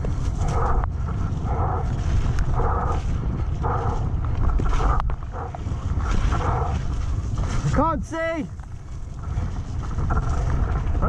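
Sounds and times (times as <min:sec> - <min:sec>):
bike trail rumble: 0:00.0 - 0:11.0
wind buffeting: 0:00.0 - 0:11.0.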